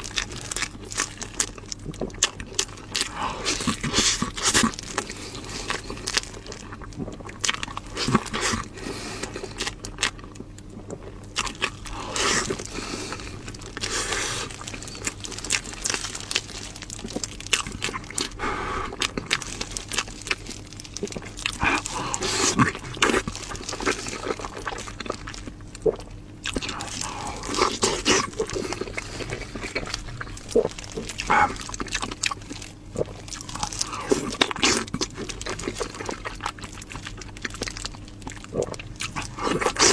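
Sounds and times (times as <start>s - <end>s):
person biting and chewing: 0.0s - 39.9s.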